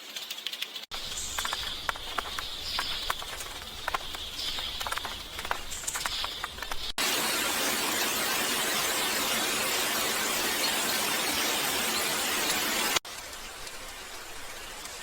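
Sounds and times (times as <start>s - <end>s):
light rain patter: 0.0s - 15.0s
heavy rain hissing: 0.9s - 15.0s.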